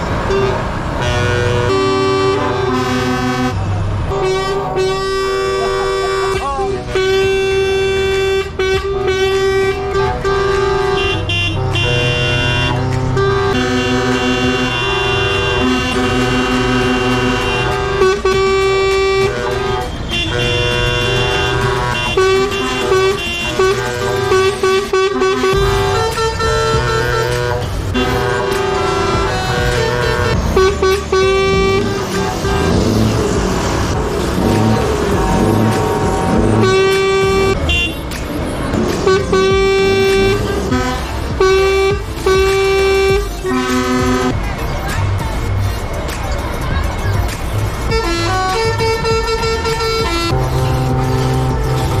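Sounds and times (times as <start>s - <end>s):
truck air horns blasting: 0.0s - 44.7s, 47.8s - 52.0s
engines idling: 0.0s - 52.0s.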